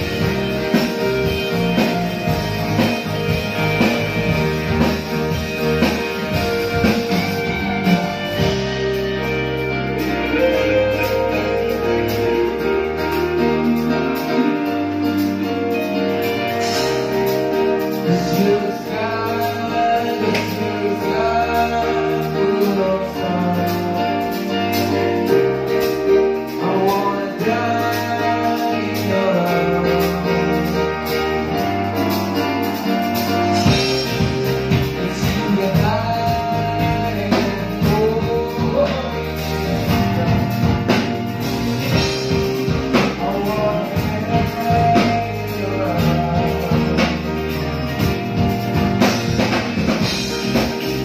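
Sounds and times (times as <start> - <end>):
person singing: 0.0 - 48.2
live band playing: 0.0 - 51.0.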